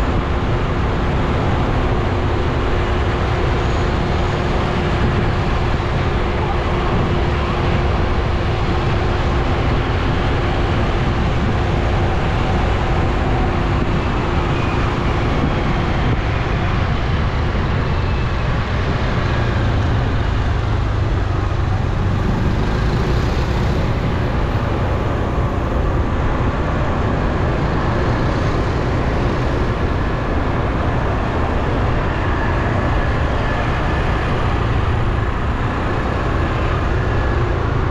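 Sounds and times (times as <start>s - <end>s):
scooters and cars driving: 0.0s - 37.9s.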